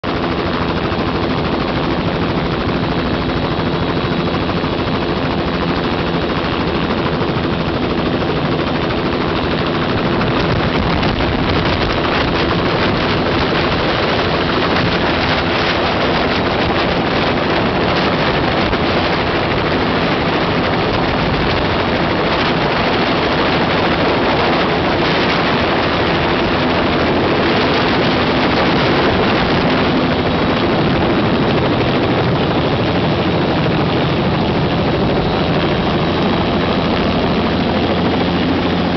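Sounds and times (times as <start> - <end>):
helicopter rotor chop: 0.0 - 38.9
turbine engine drone: 0.0 - 38.9.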